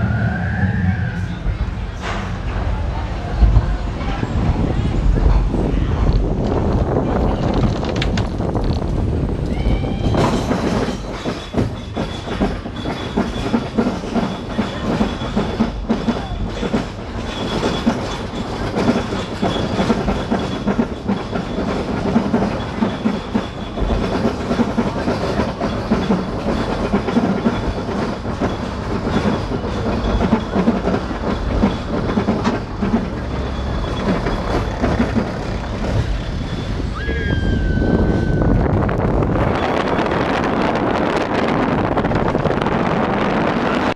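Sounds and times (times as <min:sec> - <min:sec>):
roller coaster clattering on track: 0:00.0 - 0:43.9.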